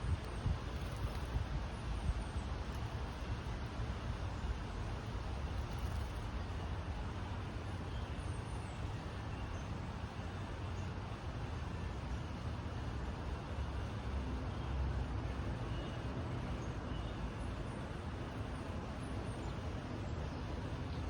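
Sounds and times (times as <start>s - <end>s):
low rumble under a hiss: 0.0s - 21.0s.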